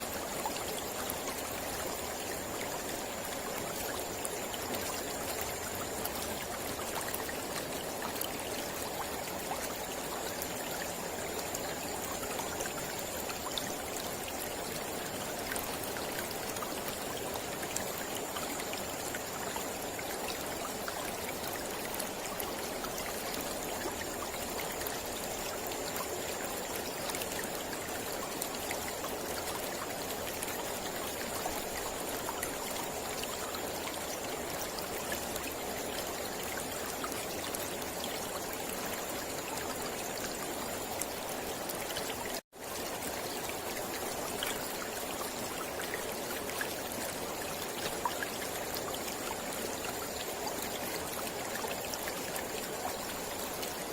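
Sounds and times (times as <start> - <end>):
small splashes and drips: 0.0 - 53.9.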